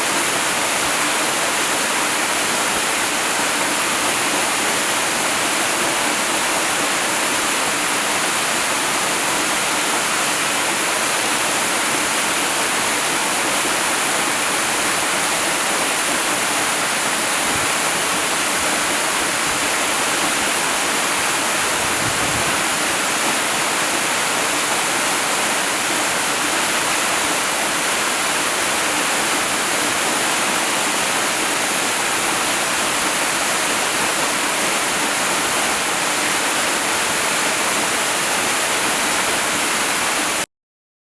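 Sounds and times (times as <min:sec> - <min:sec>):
waterfall rushing: 0:00.0 - 0:40.4.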